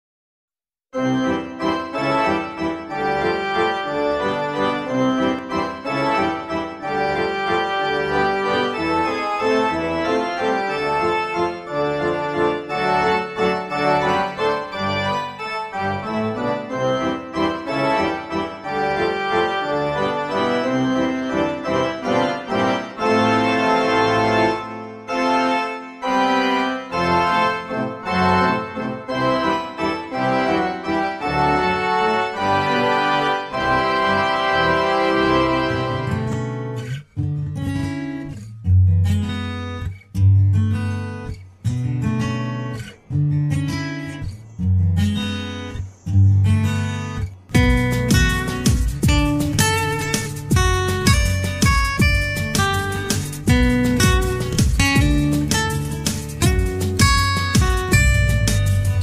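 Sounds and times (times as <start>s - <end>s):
keyboard background music: 1.0s - 38.5s, 39.1s - 59.0s.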